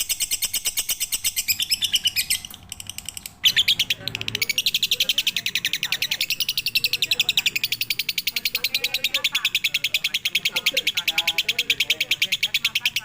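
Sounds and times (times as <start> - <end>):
lovebird chattering high chirps: 0.0 - 13.0.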